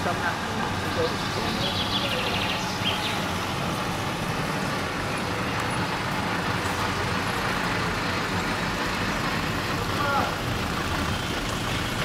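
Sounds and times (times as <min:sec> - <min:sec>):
car engines running: 0:00.0 - 0:12.0.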